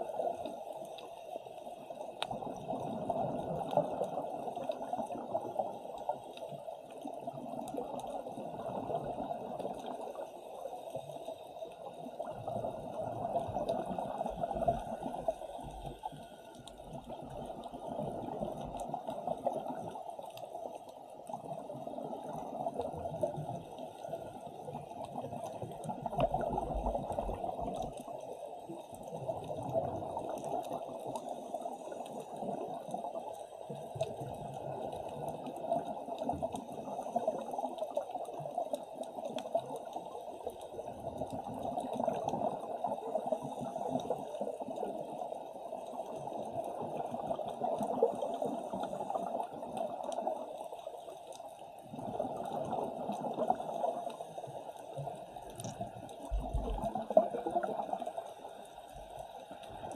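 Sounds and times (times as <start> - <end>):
underwater air bubbles rushing: 2.0 - 6.4, 7.0 - 59.9.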